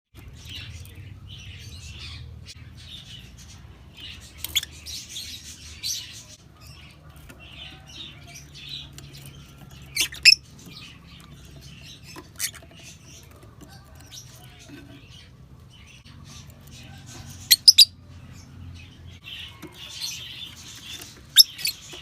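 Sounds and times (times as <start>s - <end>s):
birds chirping and twittering: 0.1s - 22.0s.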